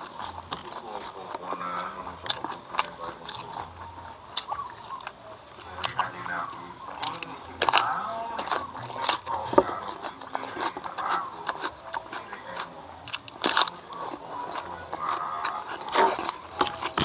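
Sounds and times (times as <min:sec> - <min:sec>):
person chewing crunchy vegetable: 0:00.0 - 0:17.0.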